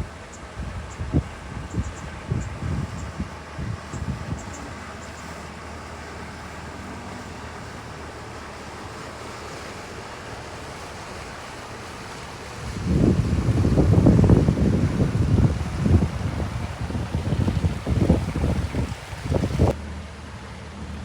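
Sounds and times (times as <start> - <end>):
wind buffeting microphone: 0.0 - 19.8
faint boat engine hum: 0.0 - 21.0
wind and sea waves: 0.0 - 21.0.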